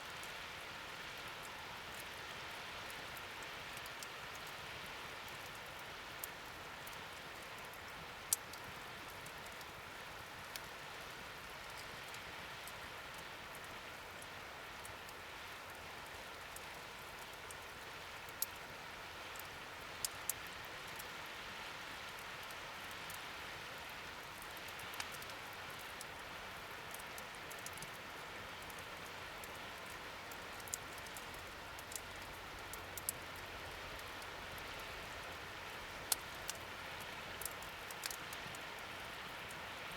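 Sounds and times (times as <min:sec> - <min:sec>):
wood fire crackling: 0:03.0 - 0:04.6, 0:05.2 - 0:18.7, 0:19.3 - 0:21.1, 0:23.8 - 0:39.9.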